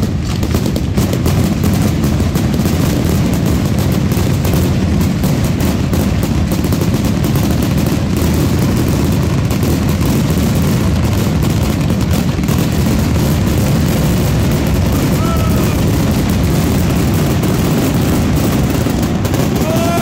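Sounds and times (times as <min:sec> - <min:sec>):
firecracker explosions: 0:00.0 - 0:20.0.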